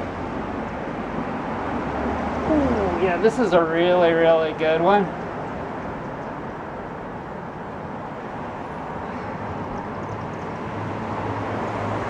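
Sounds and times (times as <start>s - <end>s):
road traffic noise: 0.0s - 12.0s
vehicle engine hum: 0.0s - 12.0s.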